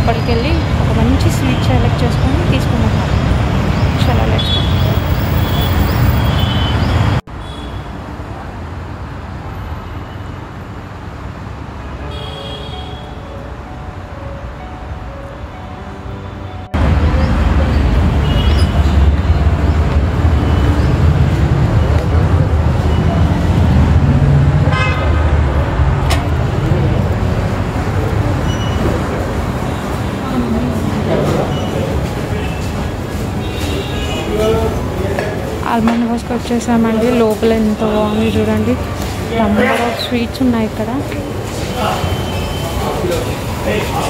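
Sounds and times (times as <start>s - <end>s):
street traffic noise: 0.0s - 44.0s.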